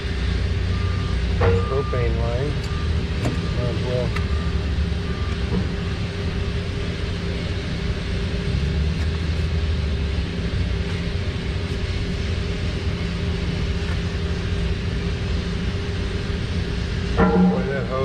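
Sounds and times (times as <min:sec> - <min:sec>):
low mechanical rumble and hum: 0:00.0 - 0:18.0.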